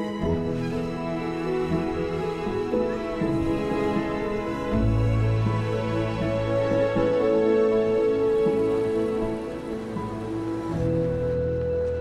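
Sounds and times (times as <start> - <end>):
soft slow orchestral music: 0.0 - 12.0.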